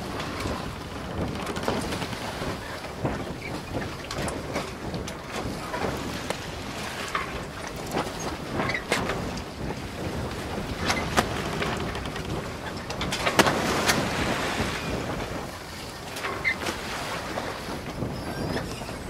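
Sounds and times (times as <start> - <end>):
water rushing along boat hull: 0.0 - 19.0
wind buffeting microphone: 0.0 - 19.0.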